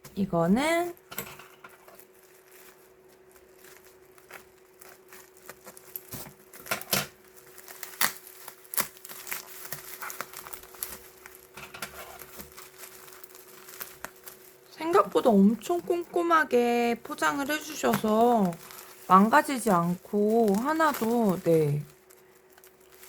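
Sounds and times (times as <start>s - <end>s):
packaging crinkling: 1.7s - 23.0s.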